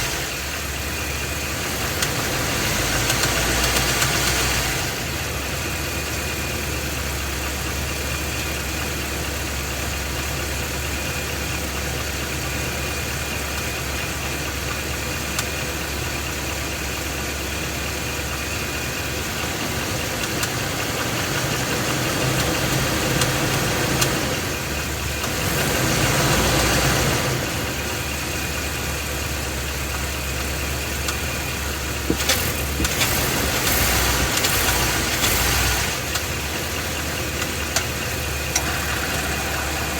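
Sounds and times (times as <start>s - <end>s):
car engine running: 0.0s - 39.9s
engine knocking: 0.0s - 39.9s.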